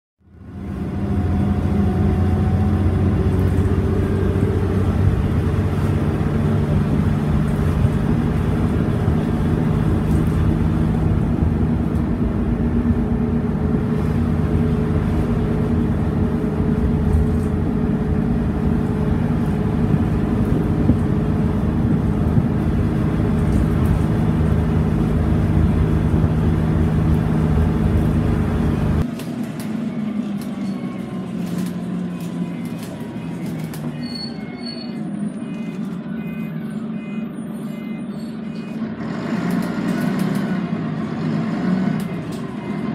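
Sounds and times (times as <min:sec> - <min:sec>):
bus diesel engine drone: 0:00.2 - 0:42.9.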